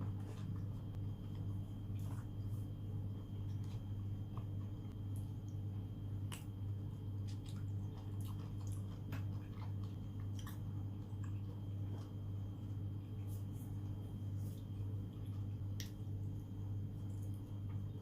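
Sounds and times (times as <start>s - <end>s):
wet chewing: 0.0s - 16.1s
steady low hum: 0.0s - 18.0s.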